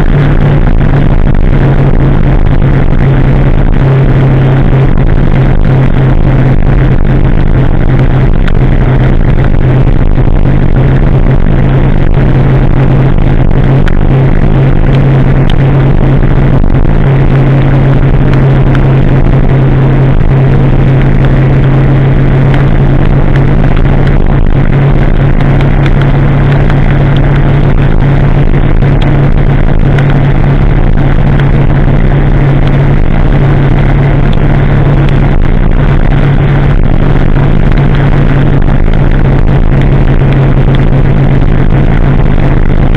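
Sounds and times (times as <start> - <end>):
motorcycle engine cruising: 0.0 - 42.9
wet road noise: 0.0 - 42.9
wind rush: 0.0 - 42.9.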